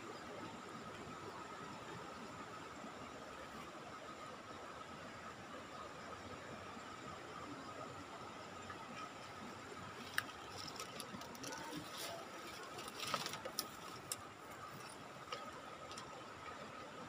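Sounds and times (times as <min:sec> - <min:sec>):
flowing river: 0:00.0 - 0:17.0.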